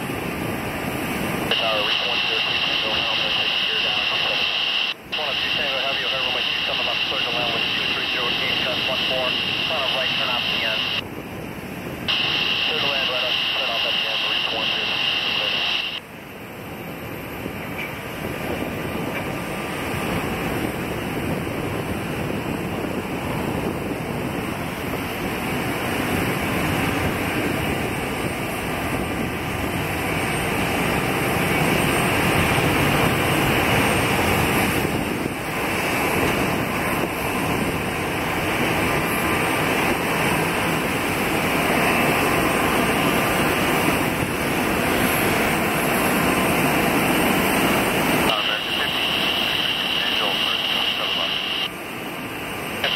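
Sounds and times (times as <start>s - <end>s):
jet aircraft rumble: 0.0s - 52.9s.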